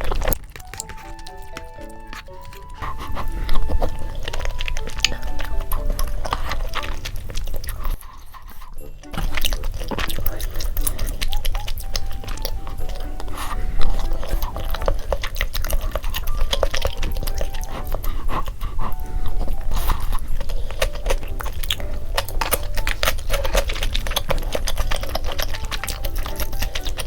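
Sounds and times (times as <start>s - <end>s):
mouth clicks and crunches: 0.0s - 27.0s
person chewing and biting: 0.0s - 27.0s.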